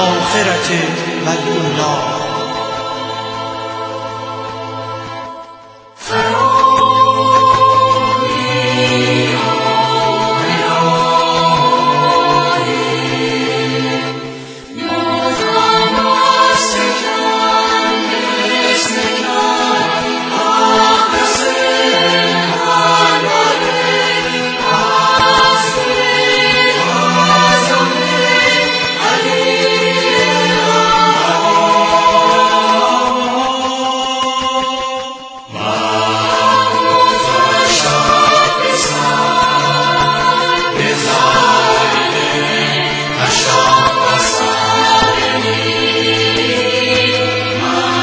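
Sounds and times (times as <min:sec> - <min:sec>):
choir singing held notes: 0:00.0 - 0:48.0.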